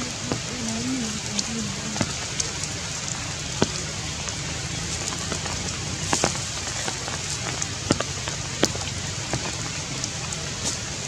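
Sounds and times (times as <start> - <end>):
drops hitting near microphone: 0.0 - 11.0
heavy rain on leaves: 0.0 - 11.0.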